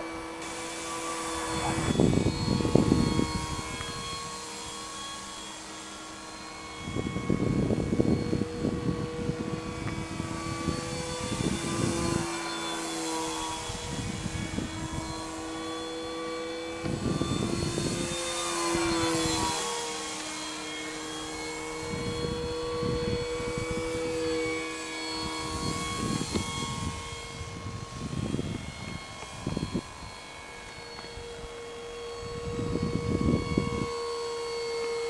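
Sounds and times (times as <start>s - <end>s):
model plane motor humming: 0.0s - 35.0s.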